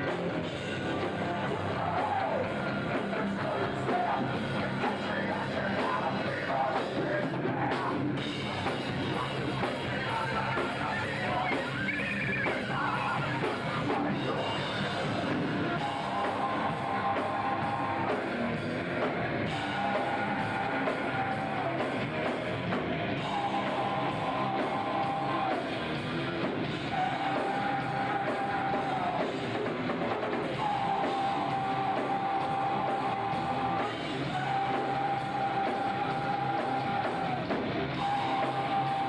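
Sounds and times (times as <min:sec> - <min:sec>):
distorted electric guitars: 0:00.0 - 0:39.0
drum kit: 0:00.0 - 0:39.0.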